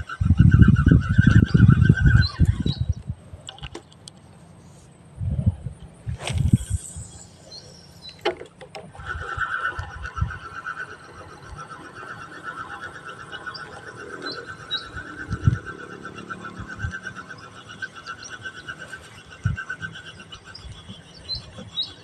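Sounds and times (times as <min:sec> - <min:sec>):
rapidly pulsing wildlife trill: 0:00.0 - 0:03.0, 0:05.9 - 0:08.3, 0:08.9 - 0:22.0.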